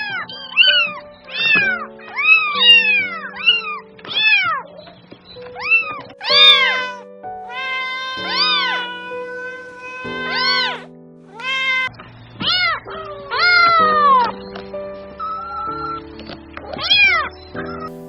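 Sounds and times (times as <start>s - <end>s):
cat meowing: 0.0s - 4.7s, 5.6s - 14.3s, 16.7s - 17.8s
background music with held notes: 0.0s - 18.0s.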